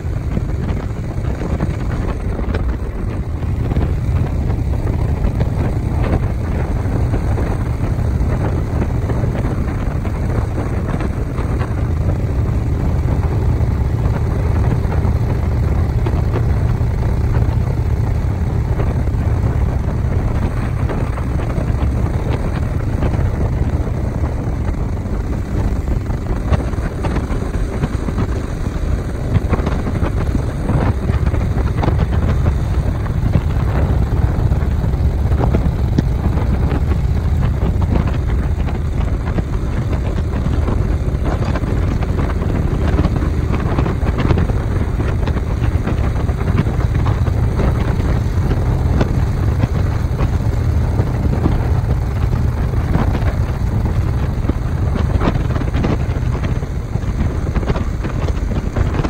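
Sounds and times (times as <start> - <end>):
vehicle engine rumble: 0.0 - 59.0
wind noise: 0.0 - 59.0.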